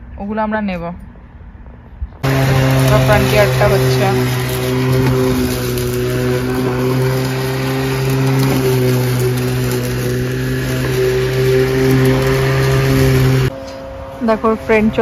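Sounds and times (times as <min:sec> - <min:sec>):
electric lawn mower running: 0:02.2 - 0:15.0.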